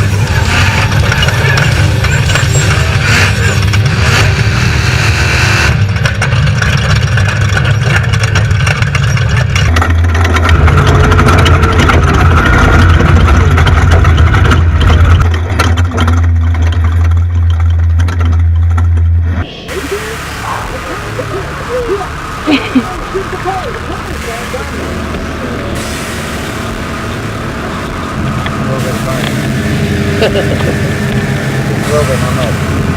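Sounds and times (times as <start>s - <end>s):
vehicle engine running hard: 0.0s - 32.9s.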